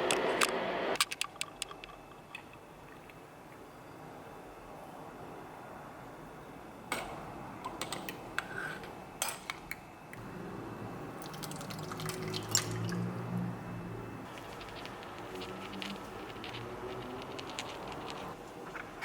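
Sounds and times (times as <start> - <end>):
low steady hum: 0.1 - 19.0.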